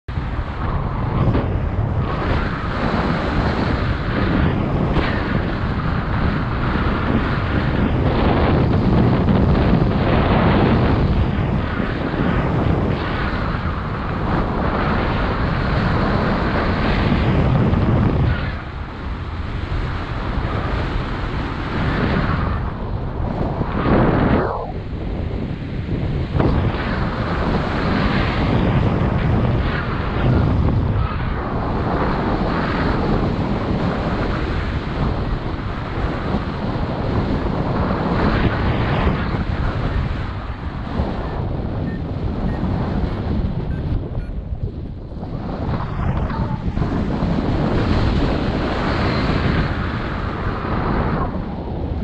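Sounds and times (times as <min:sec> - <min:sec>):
wind buffeting microphone: 0:00.1 - 0:52.0.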